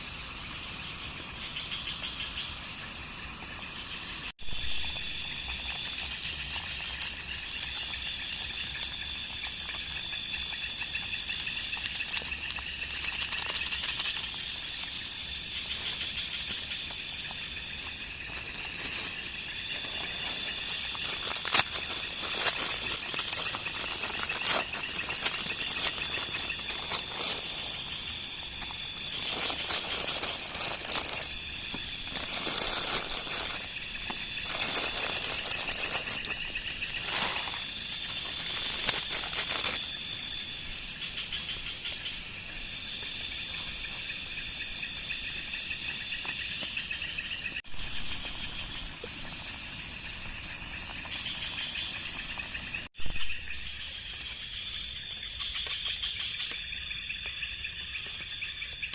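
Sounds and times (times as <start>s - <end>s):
loud insect trill: 0.0s - 58.9s
night insects trilling: 0.0s - 58.9s.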